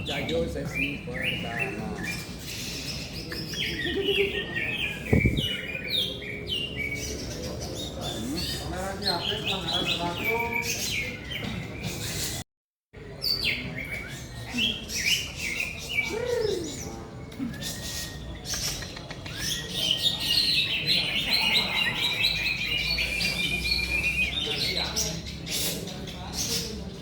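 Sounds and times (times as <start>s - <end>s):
songbirds singing: 0.0s - 12.4s, 13.0s - 27.0s.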